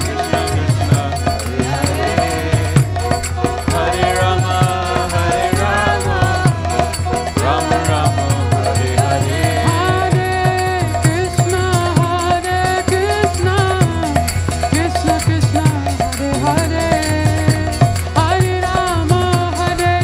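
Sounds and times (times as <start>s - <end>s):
fast percussive beat: 0.0s - 20.0s
voices singing a devotional chant: 0.0s - 20.0s.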